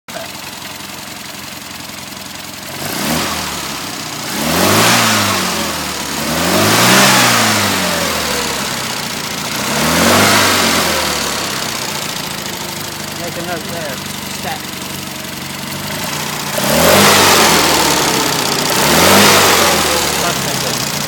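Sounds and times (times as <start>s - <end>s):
car engine idling and revving: 0.1s - 21.0s.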